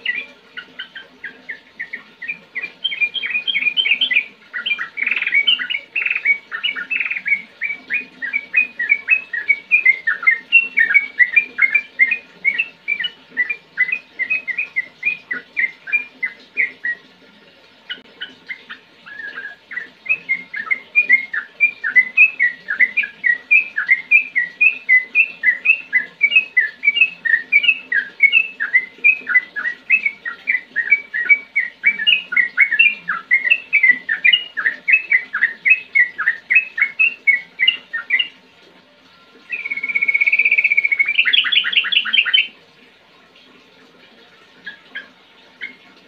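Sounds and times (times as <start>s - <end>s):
bird singing chirps and trills: 0.0s - 42.6s, 44.3s - 46.0s.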